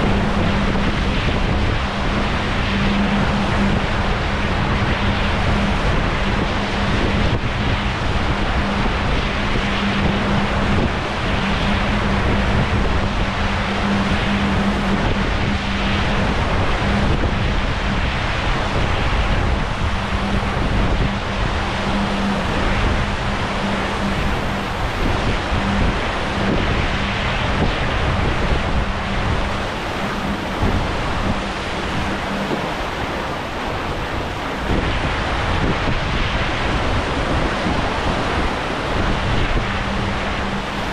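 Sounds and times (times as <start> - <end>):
steady low hum: 0.0 - 40.9
wind buffeting microphone: 0.0 - 40.9.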